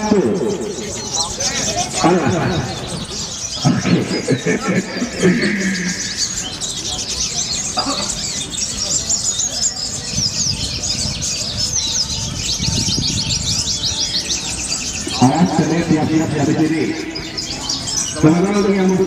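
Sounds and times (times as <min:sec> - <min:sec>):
murmur of crowd chatter: 0:00.0 - 0:19.0
songbirds chirping and trilling: 0:00.0 - 0:19.0.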